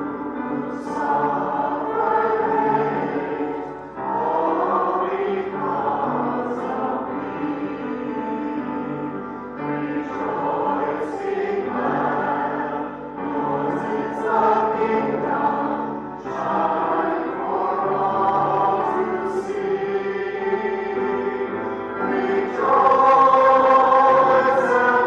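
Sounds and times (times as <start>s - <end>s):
choir singing a hymn: 0.0s - 25.0s.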